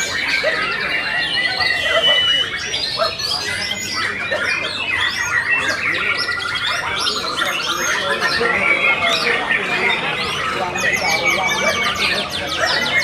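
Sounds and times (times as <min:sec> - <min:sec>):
bird singing whistles and chirps: 0:00.0 - 0:13.0.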